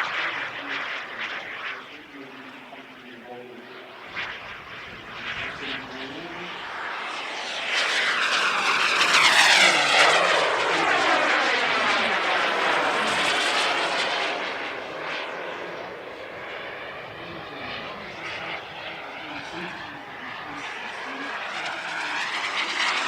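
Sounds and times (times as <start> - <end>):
model jet turbine whine passing: 0.0 - 23.0.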